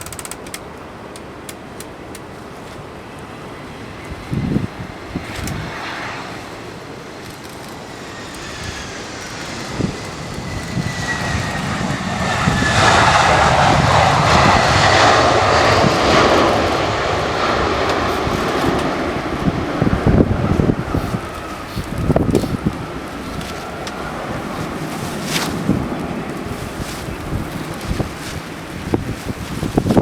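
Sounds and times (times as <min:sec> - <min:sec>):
jet passing by: 0:01.9 - 0:30.0
wind buffeting microphone: 0:03.8 - 0:30.0.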